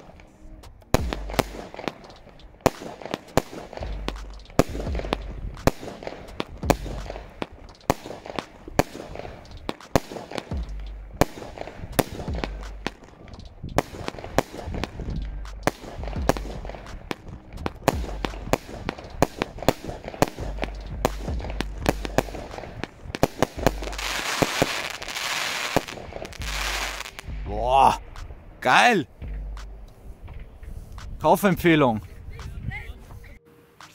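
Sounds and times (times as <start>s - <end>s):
firework crackling hiss: 0.0s - 28.3s
firework bangs: 0.0s - 28.4s.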